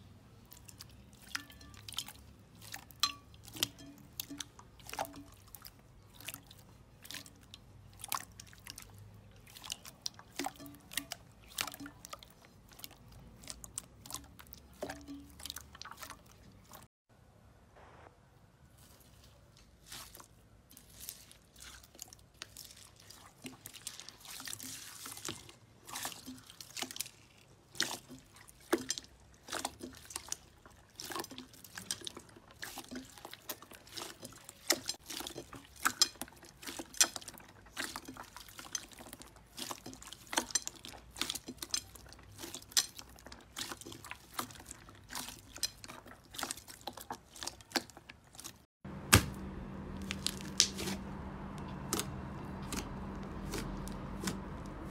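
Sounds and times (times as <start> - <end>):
slime squelching: 0.0 - 16.9, 17.9 - 54.9.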